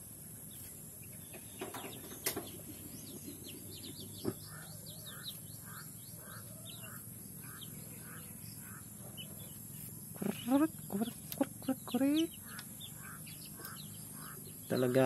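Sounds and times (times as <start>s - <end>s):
chicks peeping: 0.5s - 15.0s.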